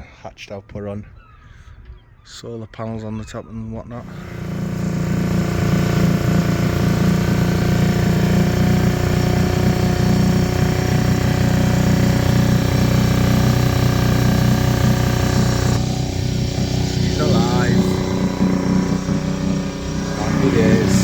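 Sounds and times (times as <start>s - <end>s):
engine running steadily: 4.0s - 21.0s.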